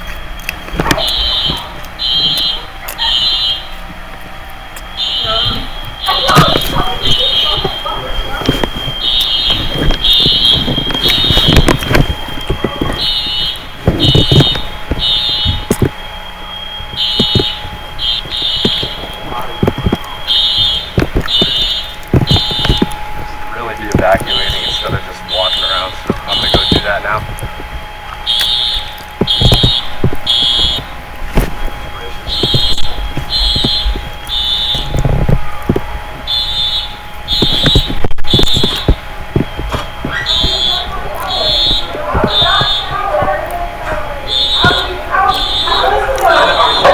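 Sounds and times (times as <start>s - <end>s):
fire alarm steady tone: 0.0s - 46.9s
higher pulsing alarm tone: 0.0s - 46.9s.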